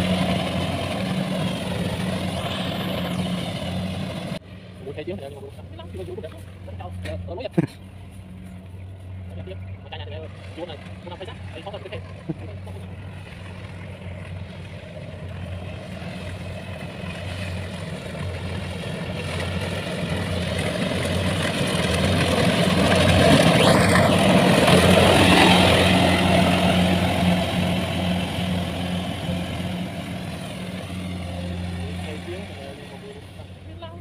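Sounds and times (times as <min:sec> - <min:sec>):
combine harvester engine hum: 0:00.0 - 0:34.0
cutting and threshing noise: 0:00.0 - 0:34.0.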